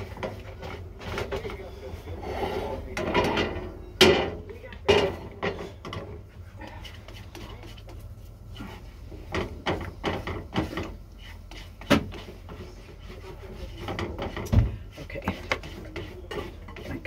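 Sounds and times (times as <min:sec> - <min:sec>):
spatula scraping a frying pan: 0:00.0 - 0:17.0.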